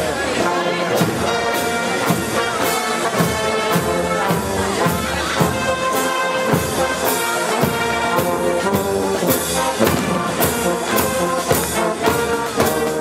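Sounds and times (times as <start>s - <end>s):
brass holding sustained notes: 0.0s - 13.0s
steady drum beat: 0.0s - 13.0s.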